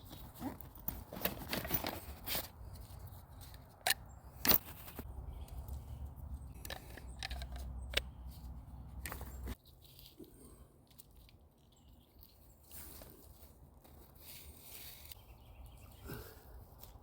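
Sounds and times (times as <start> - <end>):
dry leaves and twigs crunching: 0.0 - 17.0.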